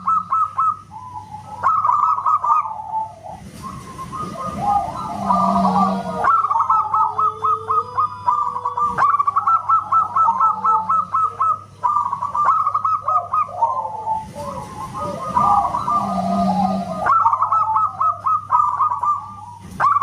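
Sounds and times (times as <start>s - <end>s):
doves cooing: 0.0s - 20.0s
faint low hum: 0.0s - 20.0s.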